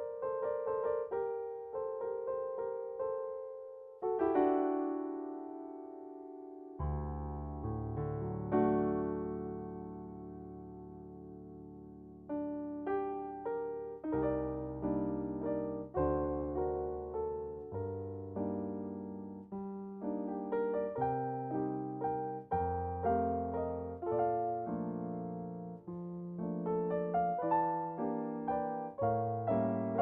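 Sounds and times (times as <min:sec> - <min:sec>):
solo piano music: 0:00.0 - 0:30.0.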